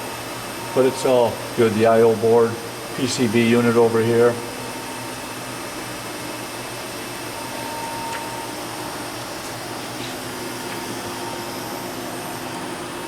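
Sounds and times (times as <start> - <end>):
machining center whirring hum: 0.0 - 13.0.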